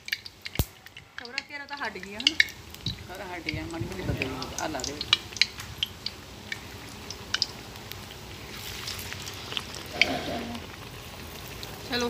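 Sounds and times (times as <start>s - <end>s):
fritters frying in oil: 0.0s - 12.0s
oil crackling and popping: 0.0s - 12.0s.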